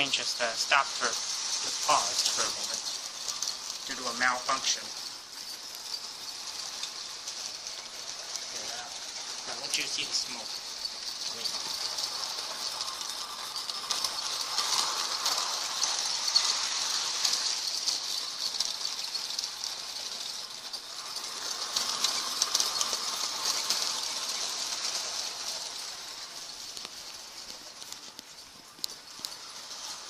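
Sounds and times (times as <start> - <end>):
toy train rattling on track: 0.0 - 30.0.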